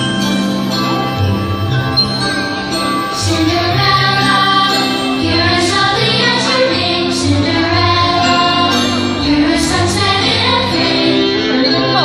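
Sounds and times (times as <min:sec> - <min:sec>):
soundtrack music: 0:00.0 - 0:12.0.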